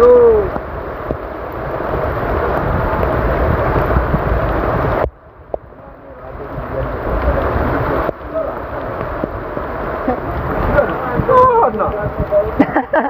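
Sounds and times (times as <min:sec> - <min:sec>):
heavy rain pouring: 0:00.0 - 0:13.0
wind buffeting microphone: 0:00.0 - 0:13.0.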